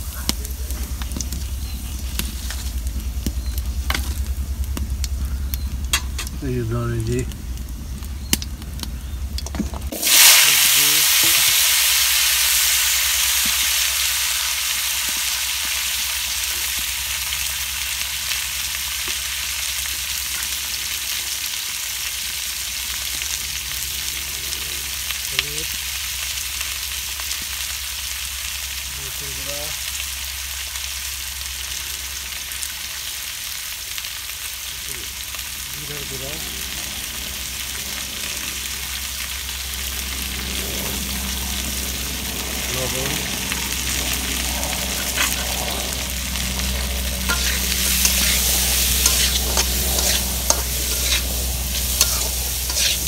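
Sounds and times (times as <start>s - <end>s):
vegetables sizzling in hot oil: 0.0s - 8.3s, 9.9s - 53.0s.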